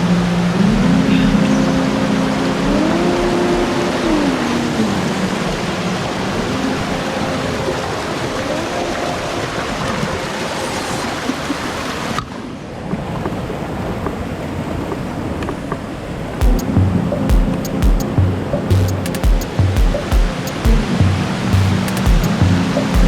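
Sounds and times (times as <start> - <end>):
stream water rushing: 0.0 - 12.7, 16.1 - 23.0.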